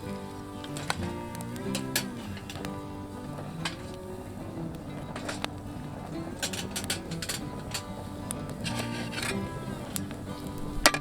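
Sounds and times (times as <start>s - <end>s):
background music with low notes: 0.0s - 11.0s.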